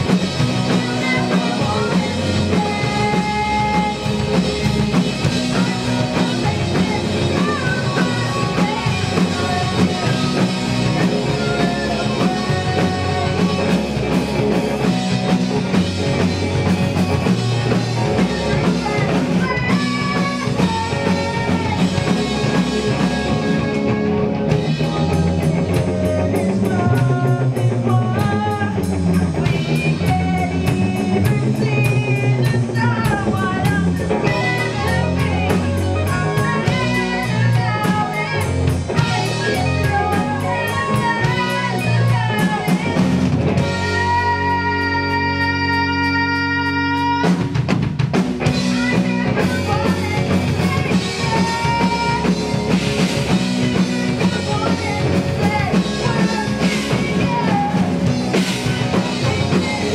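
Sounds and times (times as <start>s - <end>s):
woman singing: 0.0s - 47.6s, 48.4s - 59.9s
rock band playing live: 0.0s - 59.9s.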